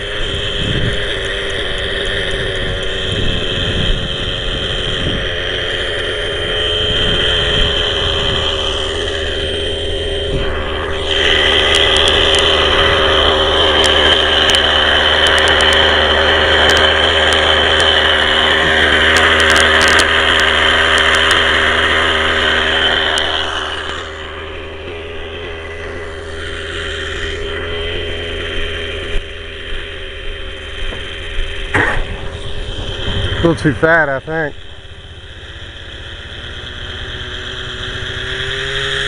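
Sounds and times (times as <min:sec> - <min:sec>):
rc helicopter engine buzzing: 0:00.0 - 0:39.0.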